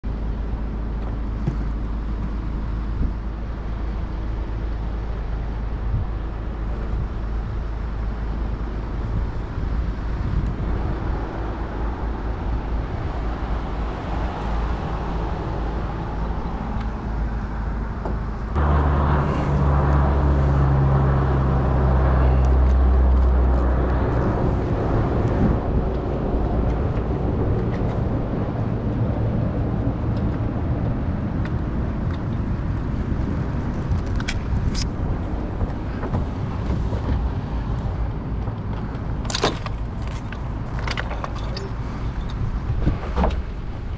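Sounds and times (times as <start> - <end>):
engine running with low hum: 0.0 - 43.9.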